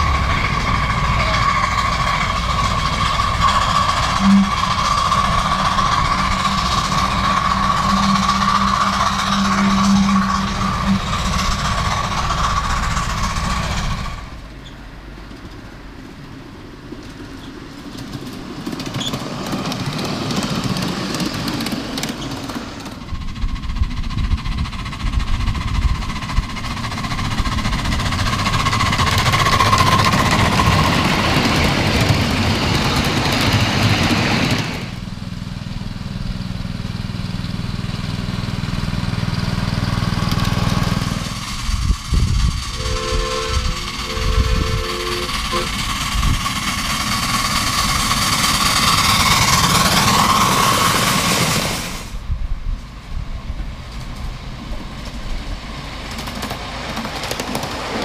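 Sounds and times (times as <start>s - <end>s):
miniature train wheels rattling: 0.0s - 14.4s, 17.0s - 35.0s, 38.4s - 51.8s, 56.0s - 58.0s.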